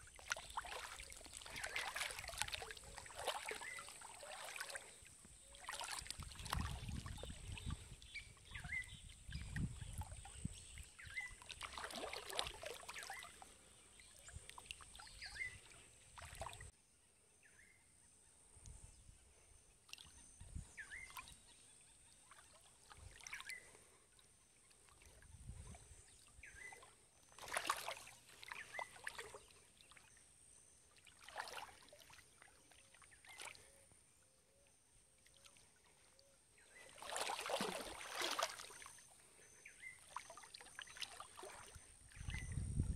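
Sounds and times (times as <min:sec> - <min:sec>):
paddle splashing water: 0:00.0 - 0:16.7, 0:20.7 - 0:33.8, 0:35.3 - 0:42.5.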